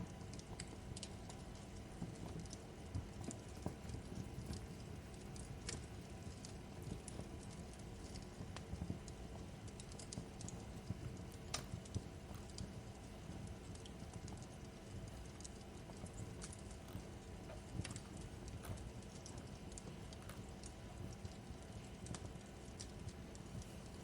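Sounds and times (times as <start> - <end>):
wood fire crackling in a fireplace: 0.0 - 24.0.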